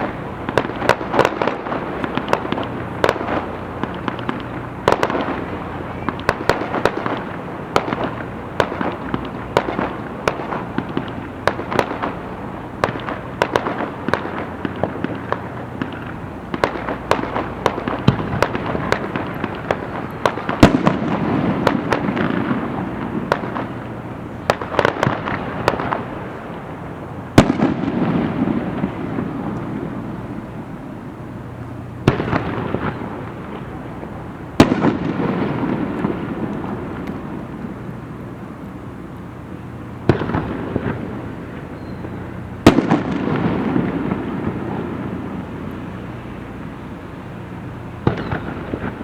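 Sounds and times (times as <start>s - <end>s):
fireworks cracking and popping: 0.0s - 49.0s
heavy firework bursts: 0.0s - 49.0s.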